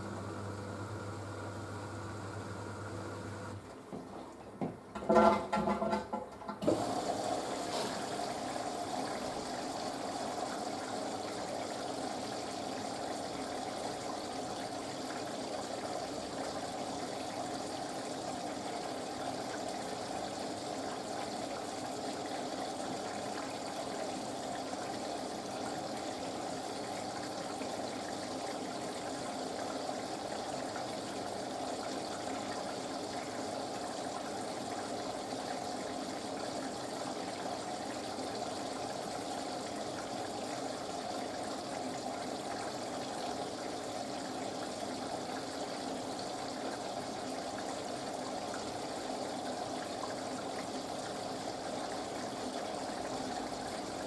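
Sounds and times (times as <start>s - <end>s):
washing machine water rushing: 0.0s - 54.0s.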